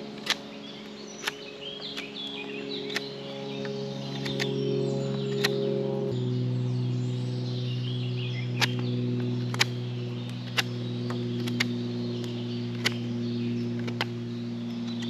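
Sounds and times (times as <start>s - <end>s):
low background music drone: 0.0s - 15.0s.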